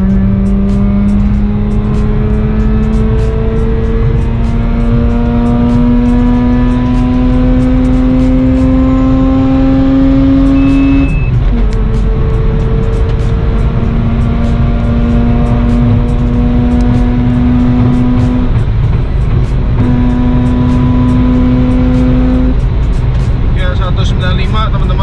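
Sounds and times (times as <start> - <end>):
rotary engine revving: 0.0 - 23.2.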